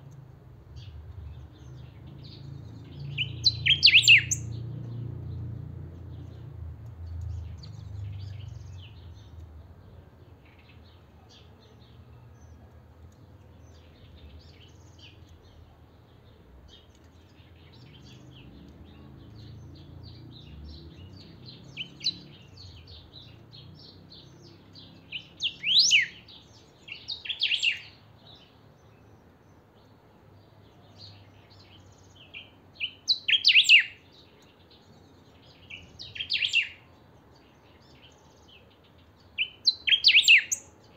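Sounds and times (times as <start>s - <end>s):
songbird twittering and singing: 0.0s - 40.9s.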